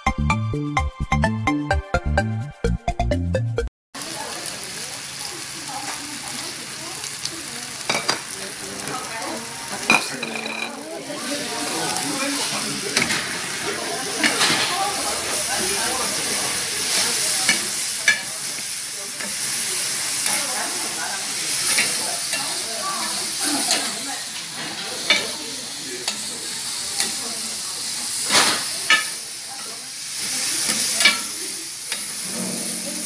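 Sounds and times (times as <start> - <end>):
food sizzling in a hot pan: 4.0 - 33.0.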